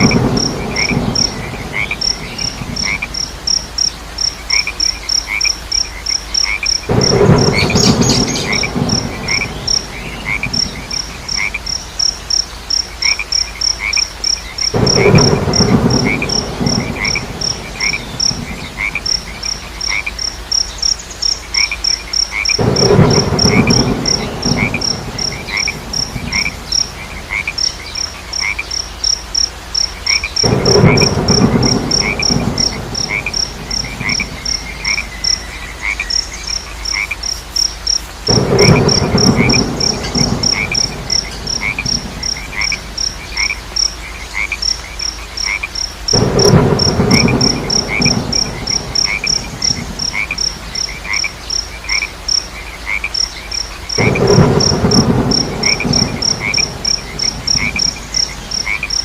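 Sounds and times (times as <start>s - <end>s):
faint rain hiss: 0.0s - 59.0s
frogs croaking: 0.0s - 59.0s
insects chirping: 0.0s - 59.0s.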